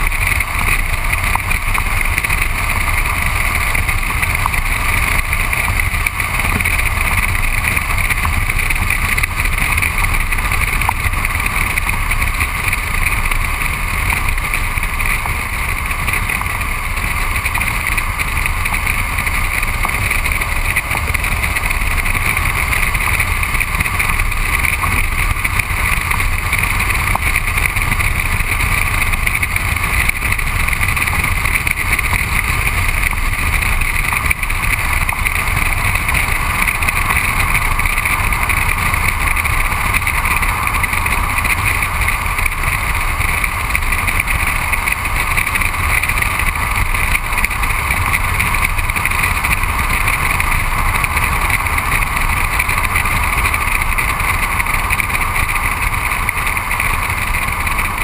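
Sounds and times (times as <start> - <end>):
tyres rolling on asphalt: 0.0 - 58.0.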